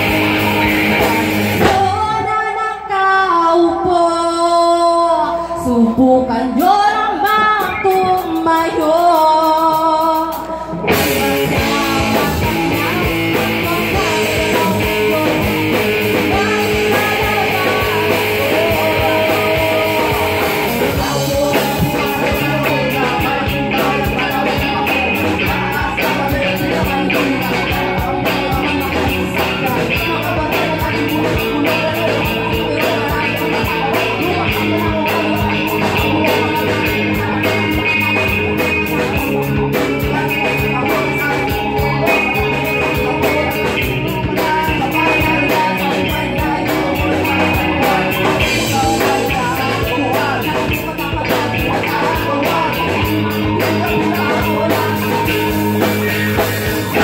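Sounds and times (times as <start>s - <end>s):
rock band playing: 0.0s - 57.0s
woman singing: 0.4s - 57.0s.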